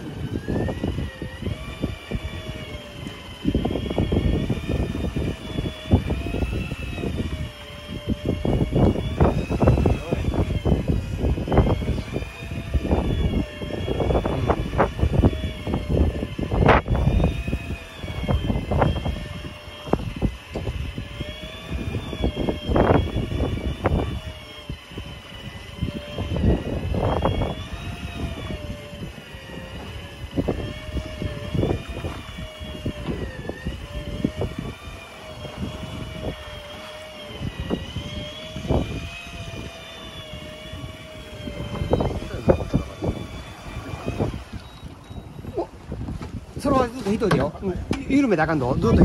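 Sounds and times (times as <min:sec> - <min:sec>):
boat engine humming: 0:00.0 - 0:49.0
wind buffeting microphone: 0:00.0 - 0:49.0.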